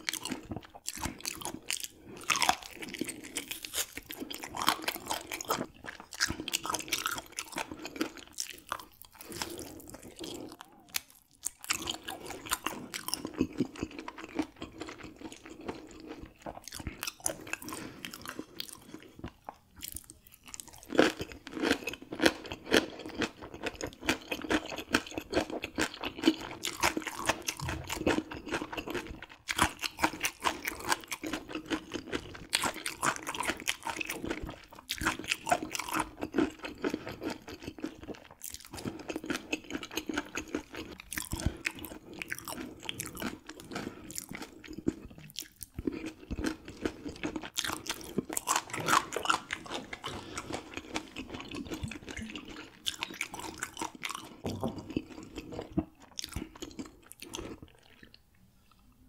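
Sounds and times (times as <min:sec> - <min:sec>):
chewing crunchy fish bones: 0:00.0 - 0:58.2.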